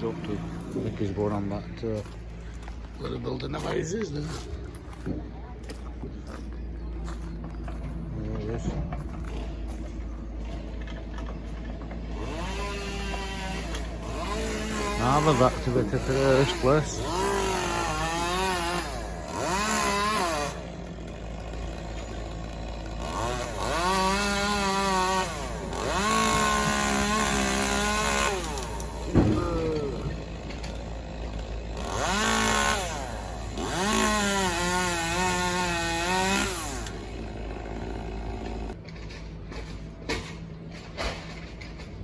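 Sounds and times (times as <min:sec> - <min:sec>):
chainsaw revving and idling: 0:00.0 - 0:04.4, 0:09.1 - 0:38.8.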